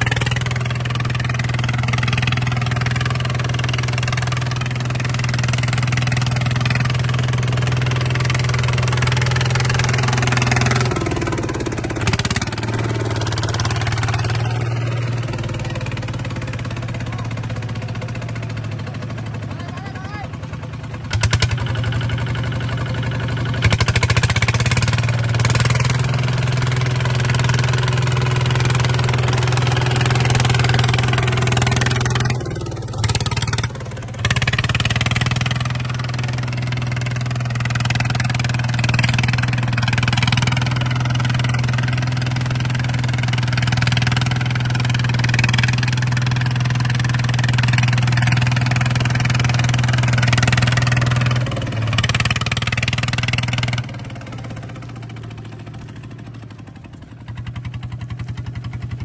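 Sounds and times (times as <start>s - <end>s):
bulldozer engine running: 0.0s - 59.0s.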